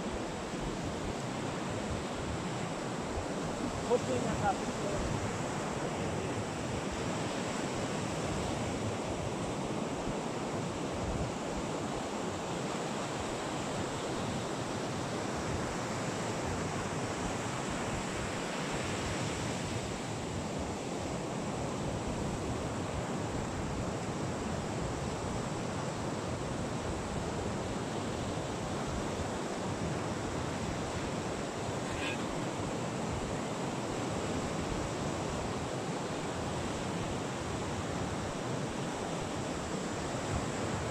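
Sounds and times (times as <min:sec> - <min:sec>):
ocean surf washing on beach: 0:00.0 - 0:40.9.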